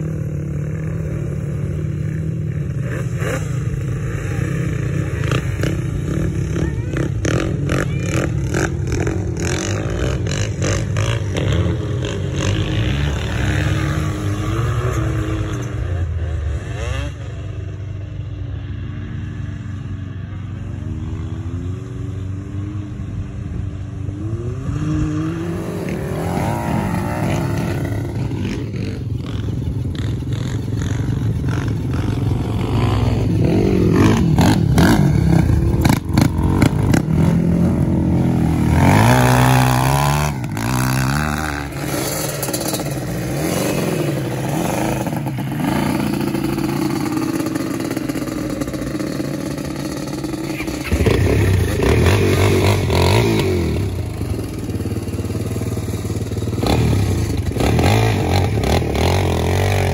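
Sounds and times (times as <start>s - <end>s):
quad engine revving: 0.0s - 17.3s, 24.0s - 59.9s.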